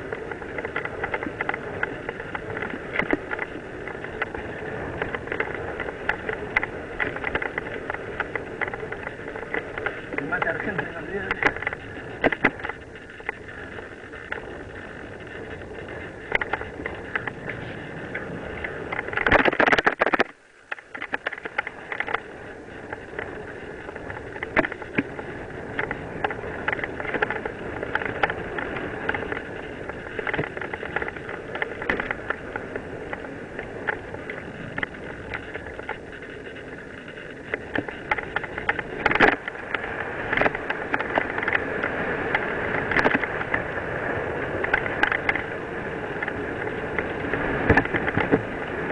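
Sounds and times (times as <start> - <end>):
bike rattling and clicking: 0.0 - 48.9
bike tyres crunching on gravel: 0.0 - 48.9.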